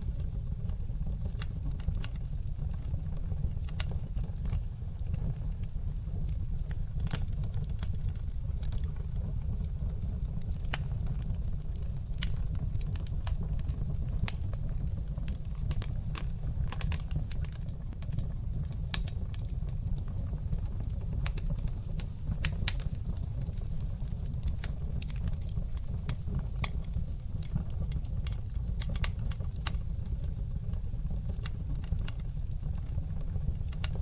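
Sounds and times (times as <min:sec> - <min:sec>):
fire crackles and pops: 0:00.0 - 0:34.0
low rumble of flames: 0:00.0 - 0:34.0.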